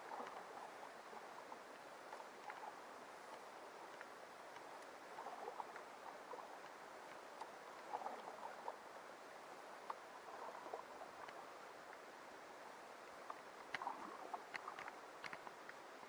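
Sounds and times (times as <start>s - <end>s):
paddle water splashes: 0.0s - 16.0s.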